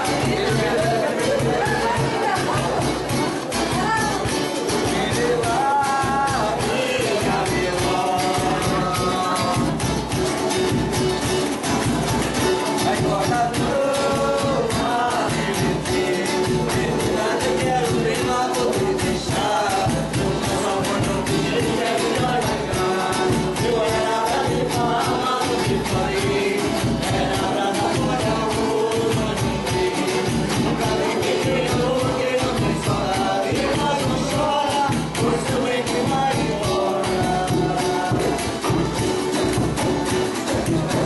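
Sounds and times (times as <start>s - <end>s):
group of voices singing: 0.0s - 41.0s
tambourine-like hand percussion: 0.0s - 41.0s.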